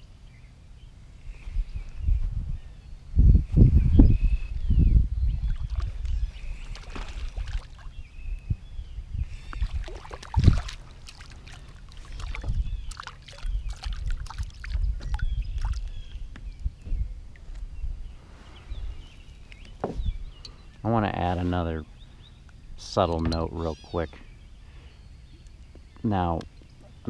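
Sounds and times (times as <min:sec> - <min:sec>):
birds chirping: 0:00.0 - 0:27.0
wind on microphone: 0:01.1 - 0:27.0.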